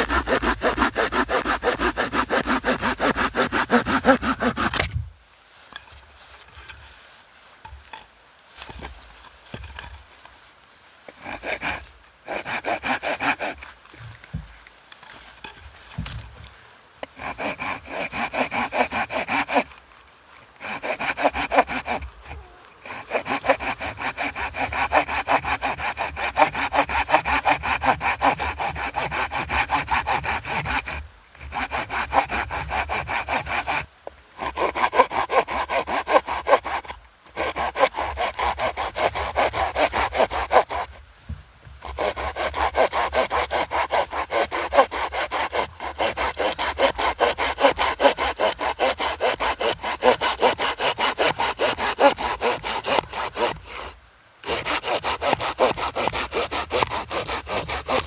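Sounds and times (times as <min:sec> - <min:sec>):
hand saw cutting wood: 0:00.0 - 0:05.0, 0:08.6 - 0:10.0, 0:11.1 - 0:16.3, 0:17.0 - 0:19.8, 0:20.5 - 0:41.0, 0:41.8 - 0:58.0.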